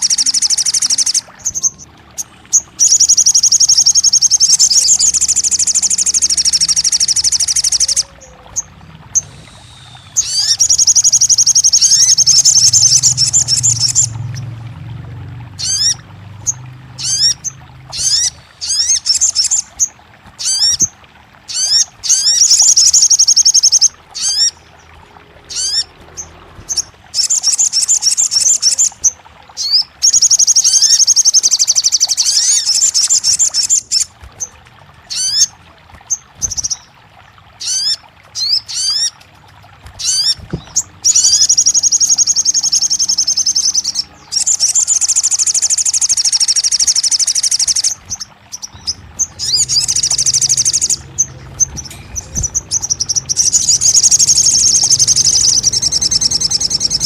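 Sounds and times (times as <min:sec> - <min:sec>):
songbird singing trills: 0:00.0 - 0:14.9, 0:15.5 - 0:20.9, 0:21.5 - 0:37.0, 0:39.9 - 0:57.0.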